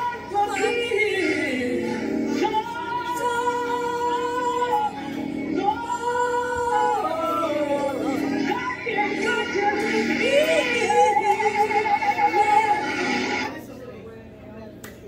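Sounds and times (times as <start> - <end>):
backing track: 0.0 - 13.5
person singing karaoke: 0.0 - 13.5.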